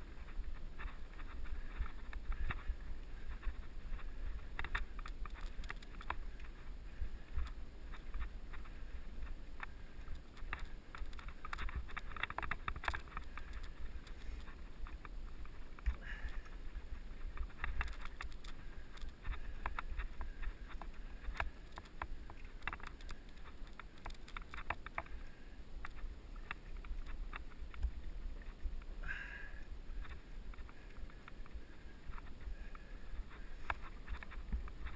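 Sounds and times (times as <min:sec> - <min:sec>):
bike clicks and rattles: 0:00.0 - 0:29.3, 0:30.0 - 0:34.9.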